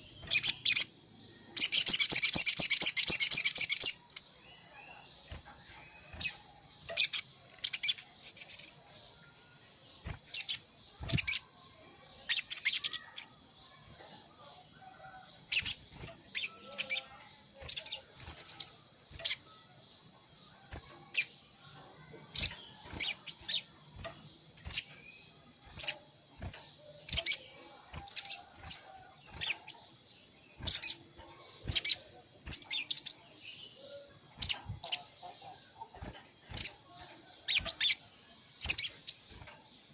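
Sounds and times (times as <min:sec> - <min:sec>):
bird high sharp chirps: 0:00.0 - 0:04.5, 0:05.3 - 0:08.8, 0:10.0 - 0:13.8, 0:15.5 - 0:19.7, 0:20.7 - 0:39.9
high insect buzz: 0:00.0 - 0:39.9.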